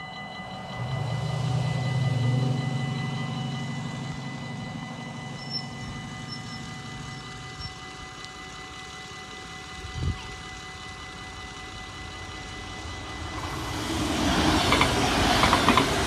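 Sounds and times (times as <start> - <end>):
barrier motor hum: 0.0 - 16.0
level crossing bell ringing: 0.0 - 16.0.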